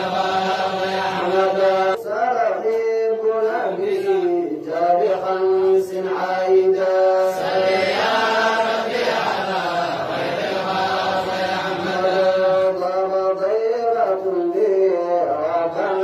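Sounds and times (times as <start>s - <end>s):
solo voice chanting: 0.0s - 16.0s.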